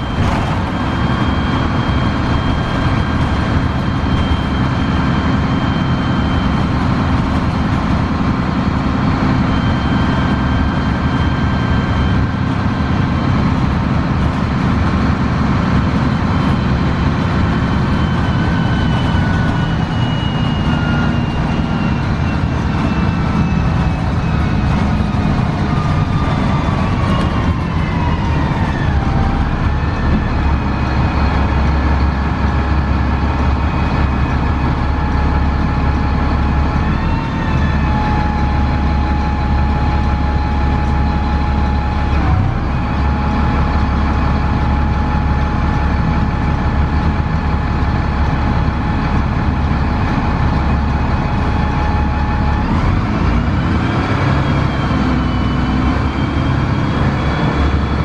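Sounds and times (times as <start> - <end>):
bus engine rumble: 0.0 - 58.0
transmission whine: 0.0 - 58.0.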